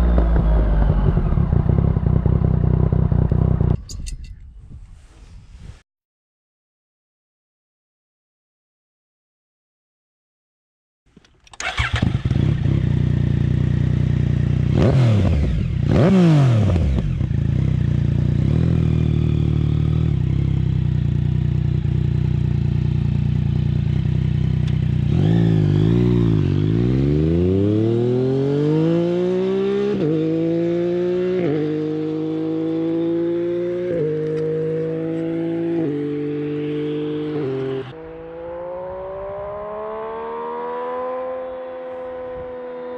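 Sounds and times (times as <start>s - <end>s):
motorcycle engine revving: 0.0s - 3.8s, 11.4s - 42.9s.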